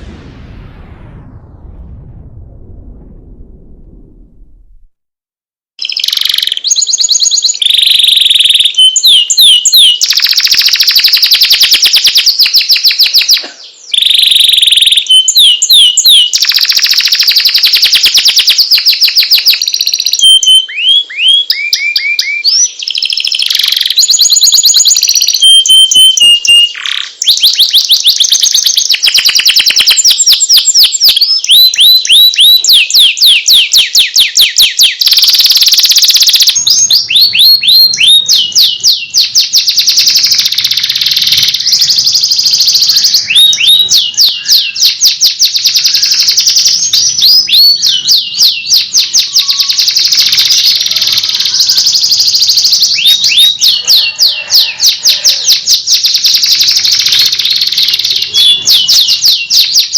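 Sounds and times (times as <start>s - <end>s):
canary singing: 5.8s - 59.9s.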